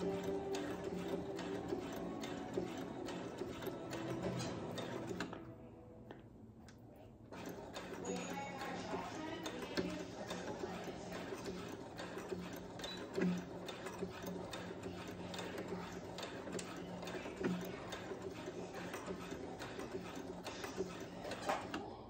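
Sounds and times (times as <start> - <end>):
sewing machine stitching: 0.0 - 5.4, 7.3 - 21.9.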